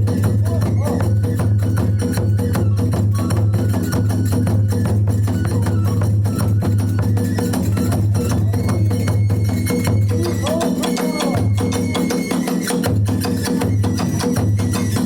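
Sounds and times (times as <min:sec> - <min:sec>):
drums beaten fast: 0:00.0 - 0:15.0.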